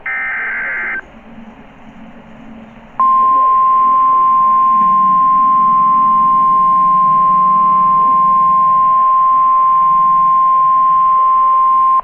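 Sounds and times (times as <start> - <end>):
steady warning alarm tone: 0.0 - 12.0.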